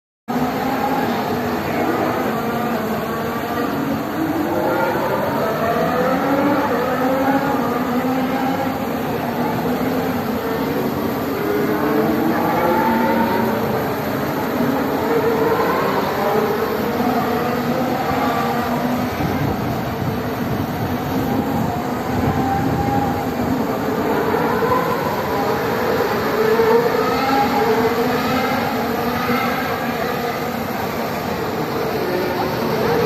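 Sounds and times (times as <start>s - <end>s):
distant racing car engines: 0.3s - 33.0s.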